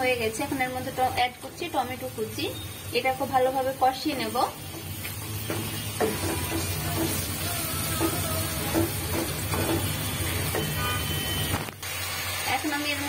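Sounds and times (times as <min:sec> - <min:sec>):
tomato sizzling in oil: 0:00.0 - 0:13.0.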